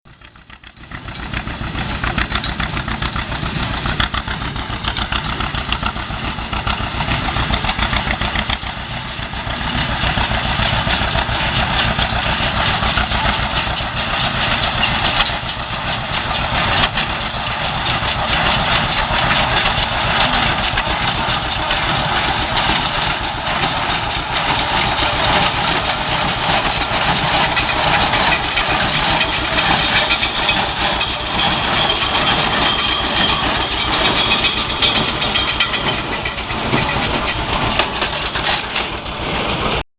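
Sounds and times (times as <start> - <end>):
tractor engine running: 0.0 - 39.9
baler machinery working: 0.1 - 39.8.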